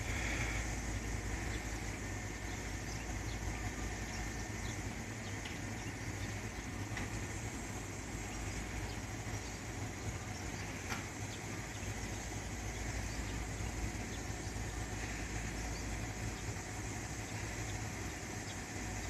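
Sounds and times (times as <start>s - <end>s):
electric train humming: 0.0s - 19.0s.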